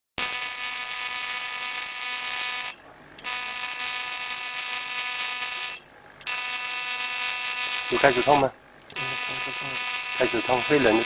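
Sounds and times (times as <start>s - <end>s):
electric buzz with hiss: 0.2s - 11.0s.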